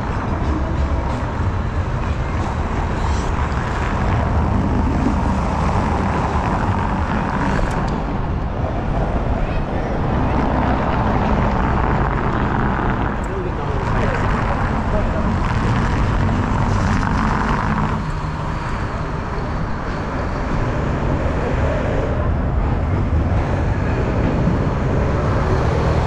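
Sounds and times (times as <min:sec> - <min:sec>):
cars rumbling over brick street: 0:00.0 - 0:26.0.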